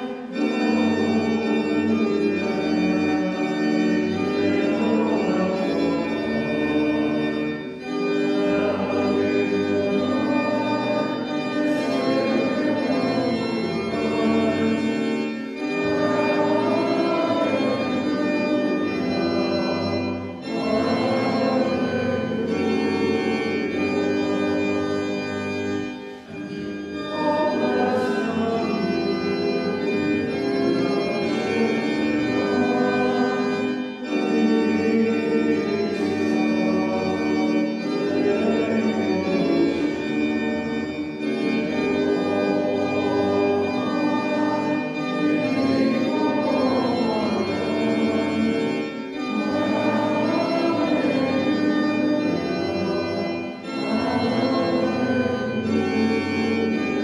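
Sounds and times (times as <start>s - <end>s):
organ playing a hymn: 0.0s - 57.0s.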